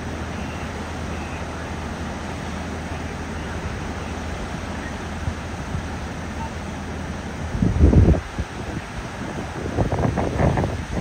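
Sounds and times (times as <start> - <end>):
river rapids rushing: 0.0 - 11.0
wind buffeting microphone: 0.0 - 11.0.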